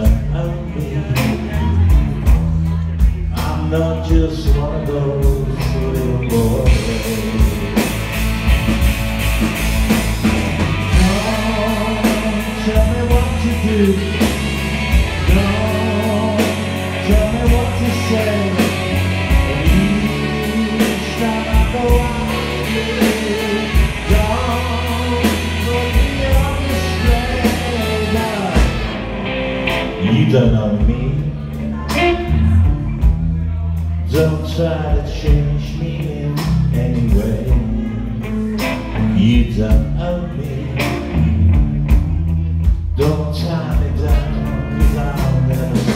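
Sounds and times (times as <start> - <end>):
person singing: 0.0 - 8.0, 10.8 - 41.4, 43.0 - 45.9
live rock band playing: 0.0 - 45.9.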